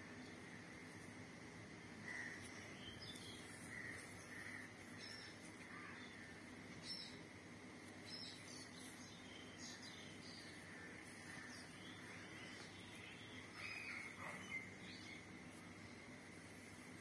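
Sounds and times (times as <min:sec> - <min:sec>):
high insect hum: 0:00.0 - 0:17.0.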